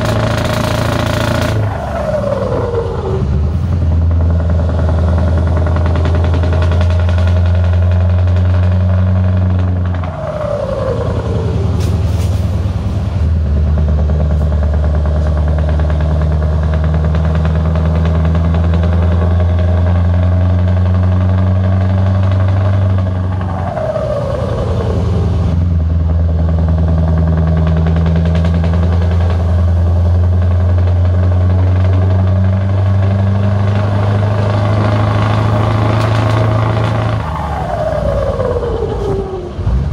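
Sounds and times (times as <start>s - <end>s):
falling whine: 0.0s - 17.8s, 22.0s - 39.9s
truck diesel engine droning: 0.0s - 39.9s.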